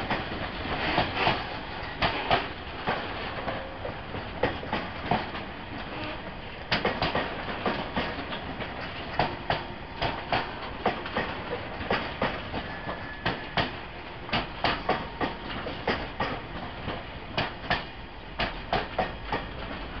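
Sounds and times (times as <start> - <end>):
train wheels clacking over rail joints: 0.0 - 20.0.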